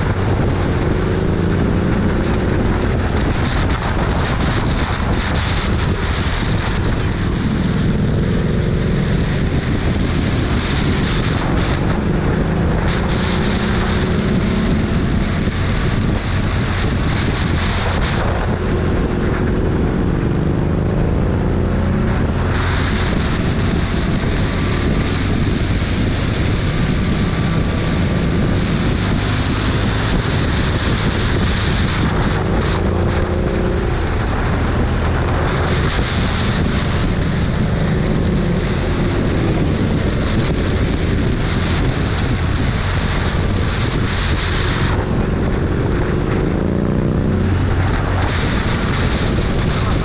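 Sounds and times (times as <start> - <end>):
vehicle engine revving: 0.0 - 50.0
wind rushing over microphone: 0.0 - 50.0.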